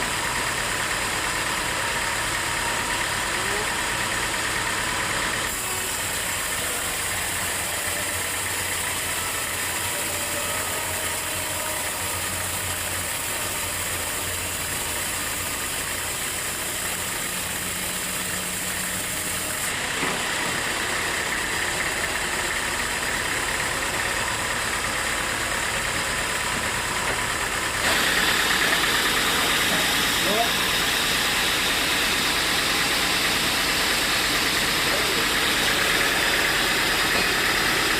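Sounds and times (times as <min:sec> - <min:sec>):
sawmill machinery drone: 0:00.0 - 0:37.9.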